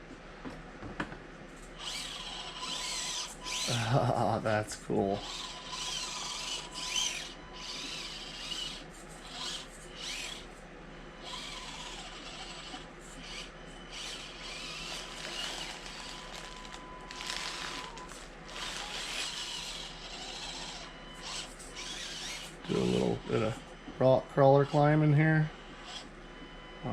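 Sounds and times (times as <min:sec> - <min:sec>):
small electric motor whining: 0:01.6 - 0:26.9.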